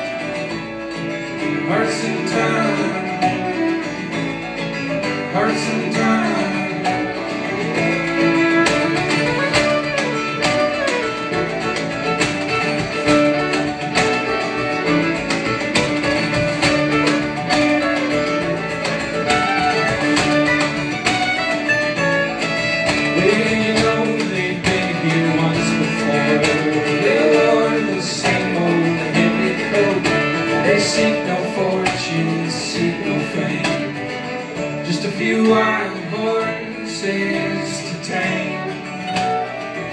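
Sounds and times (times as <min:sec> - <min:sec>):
fiddle: 0:00.0 - 0:39.9
strummed acoustic guitar: 0:00.0 - 0:39.9
upright bass: 0:00.0 - 0:39.9.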